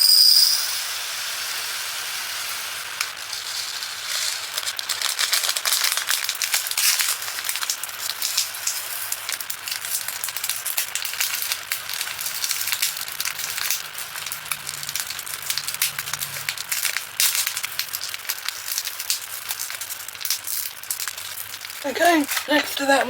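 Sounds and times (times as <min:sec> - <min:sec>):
tiny rhinestones pouring: 0:01.7 - 0:23.0
plastic bag crinkling: 0:03.0 - 0:23.0.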